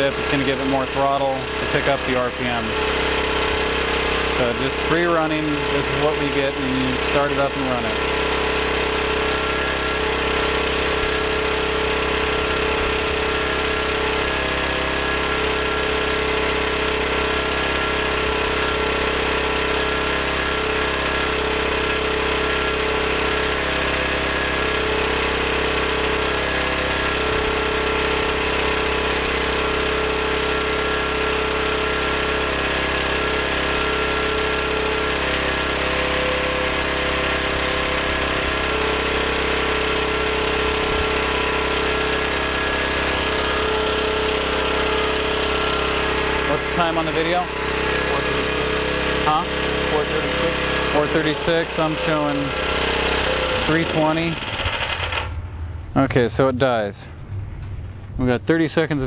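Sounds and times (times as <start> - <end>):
generator engine running steadily: 0.0 - 59.0.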